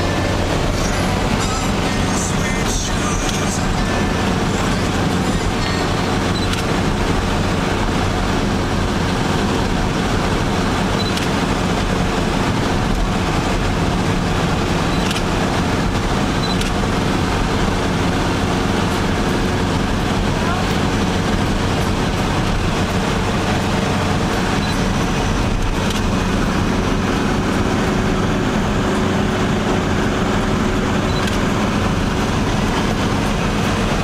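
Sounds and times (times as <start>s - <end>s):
road noise: 0.0s - 34.0s
vehicle engine drone: 0.0s - 34.0s.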